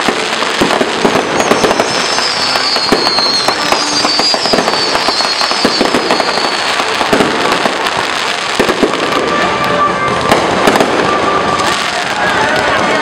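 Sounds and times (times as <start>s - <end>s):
firework shells bursting and crackling: 0.0s - 13.0s.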